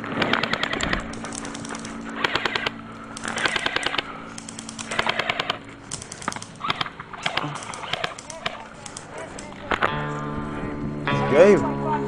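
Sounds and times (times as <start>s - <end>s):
airsoft guns firing bursts: 0.0s - 9.9s.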